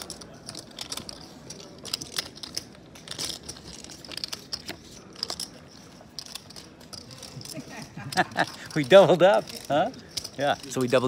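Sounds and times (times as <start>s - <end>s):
poker chips clicking: 0.0s - 11.0s.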